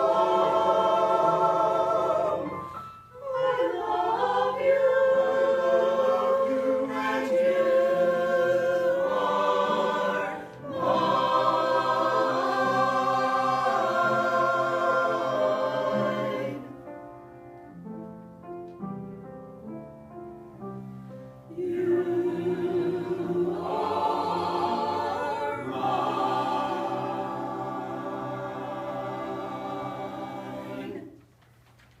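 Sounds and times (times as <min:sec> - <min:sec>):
choir singing: 0:00.0 - 0:16.8, 0:21.5 - 0:31.2.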